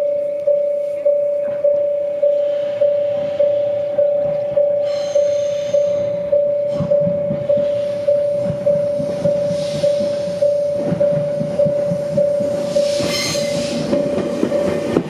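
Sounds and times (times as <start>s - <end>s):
level crossing bell ringing: 0.0s - 13.0s
train rumbling on rails: 0.0s - 15.0s.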